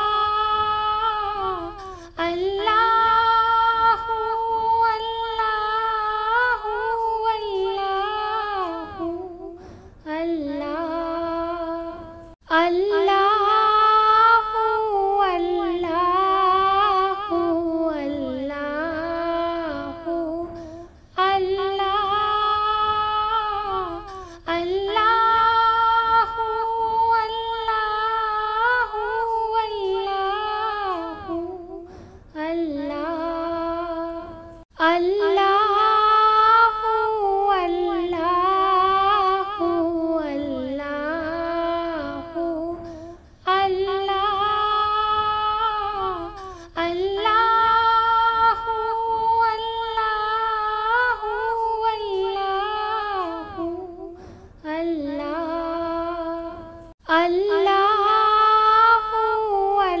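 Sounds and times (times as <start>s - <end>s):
woman singing unaccompanied: 0.0s - 60.0s.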